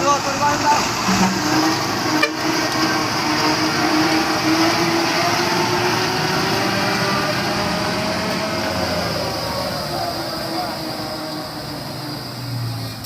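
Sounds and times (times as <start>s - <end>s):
truck engine under load: 0.0s - 13.0s
rising whine: 0.9s - 13.0s.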